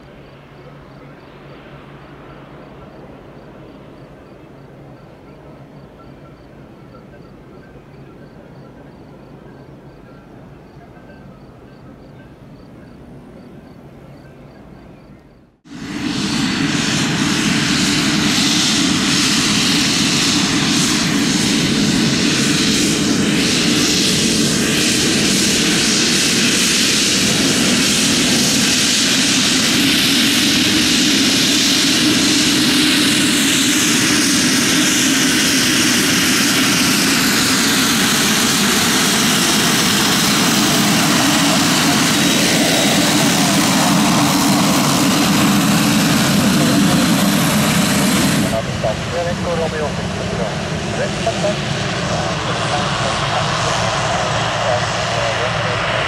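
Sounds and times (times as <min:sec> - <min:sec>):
propeller drone: 0:00.0 - 0:56.0.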